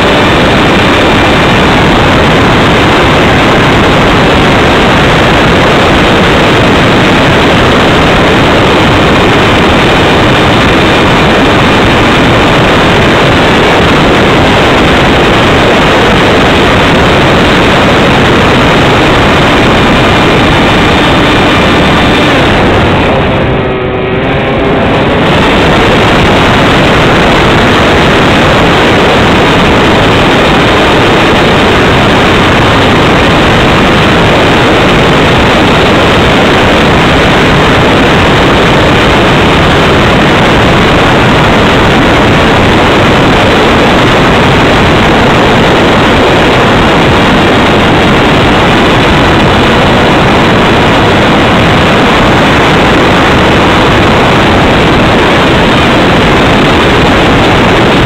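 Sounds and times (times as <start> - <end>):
electric motor and propeller roar: 0.0 - 58.0
rush of air: 0.0 - 58.0.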